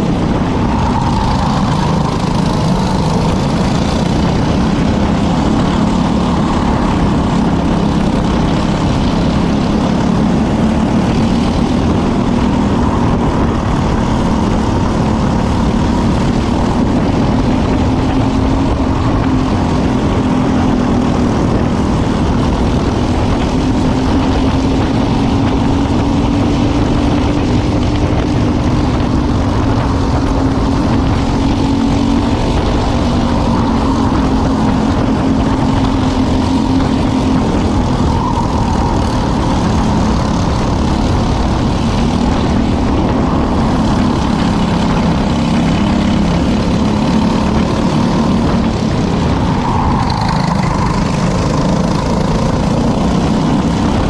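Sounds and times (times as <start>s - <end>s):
kart engine running: 0.0s - 54.0s
steady rush of noise: 0.0s - 54.0s.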